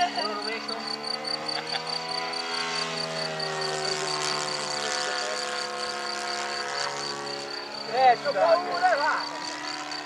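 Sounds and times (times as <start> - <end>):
model airplane engine in flight: 0.0 - 10.0.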